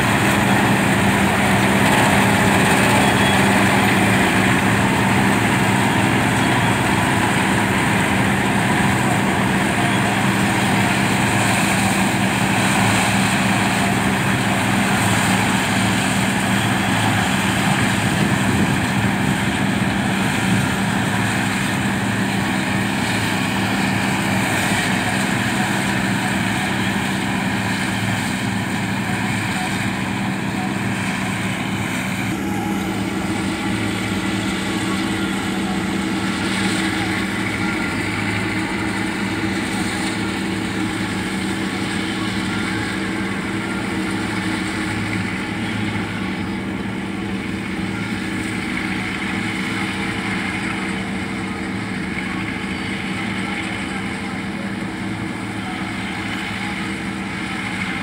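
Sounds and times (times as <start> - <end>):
combine harvester engine drone: 0.0 - 58.0
cutting and threshing machinery: 0.0 - 58.0.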